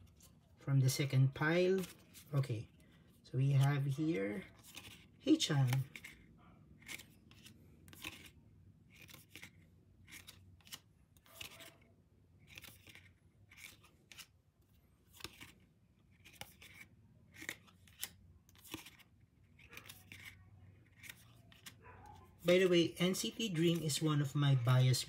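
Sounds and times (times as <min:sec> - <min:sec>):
photo cards swishing and clicking: 0:00.0 - 0:25.0.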